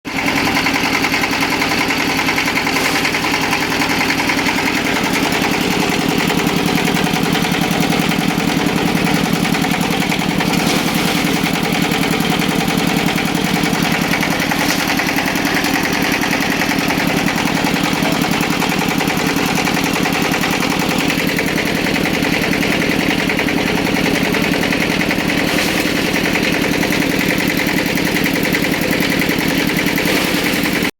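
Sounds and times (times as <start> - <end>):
chopping machine engine running: 0.1 - 30.9.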